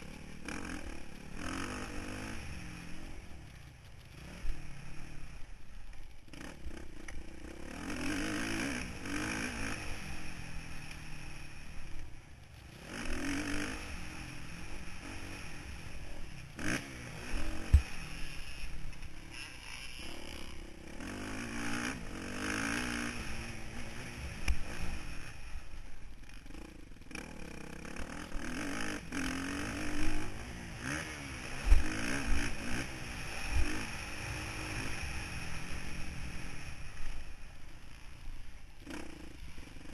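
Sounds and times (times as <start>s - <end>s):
motocross bike engine revving: 0.0s - 5.6s, 6.2s - 39.9s.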